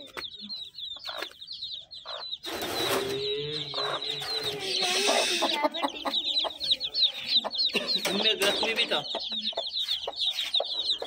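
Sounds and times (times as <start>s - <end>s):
chicks peeping: 0.0s - 11.0s
hen clucking: 0.0s - 11.0s.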